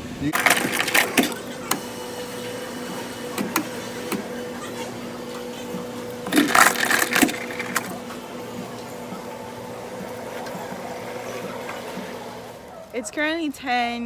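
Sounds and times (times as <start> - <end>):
steady electrical hum: 0.0 - 14.0
clatter or voices: 0.3 - 13.1.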